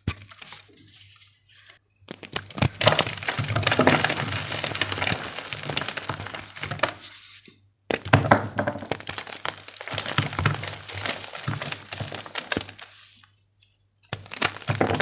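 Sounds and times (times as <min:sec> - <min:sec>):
chalk crumbling and cracking: 0:01.5 - 0:07.4, 0:08.0 - 0:15.0.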